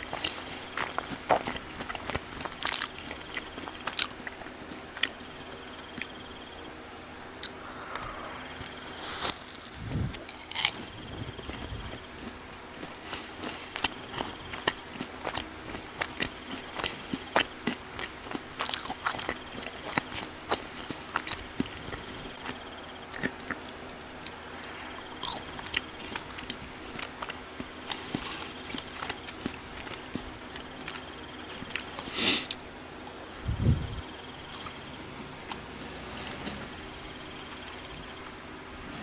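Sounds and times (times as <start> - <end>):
chewing crispy fried food: 0.0 - 39.0.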